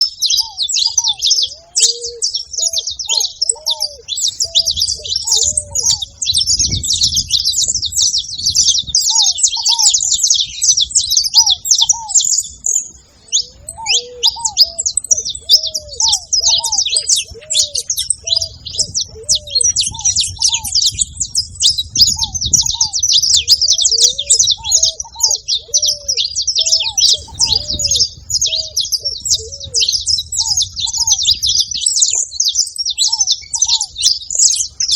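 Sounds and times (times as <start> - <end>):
finches chirping and singing: 0.0 - 34.9.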